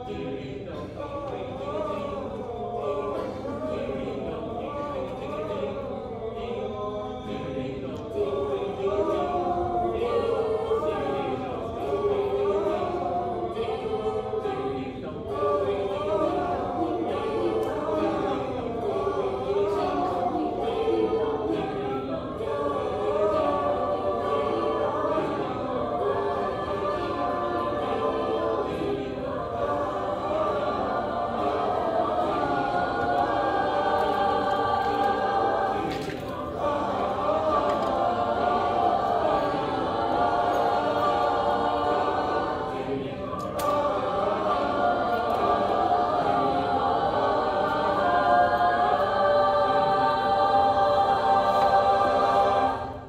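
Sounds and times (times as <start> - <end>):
choir singing in parts: 0.0 - 53.0.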